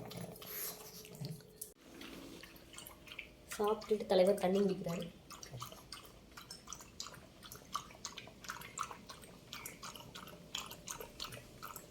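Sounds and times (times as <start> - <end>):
dog lapping water: 0.0 - 11.9.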